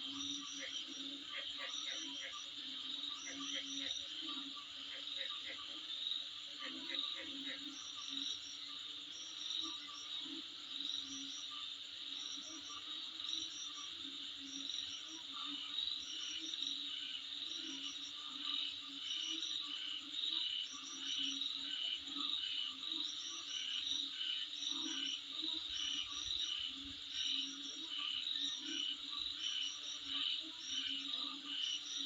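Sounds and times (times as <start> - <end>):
low pulsing insect call: 0.0 - 32.0.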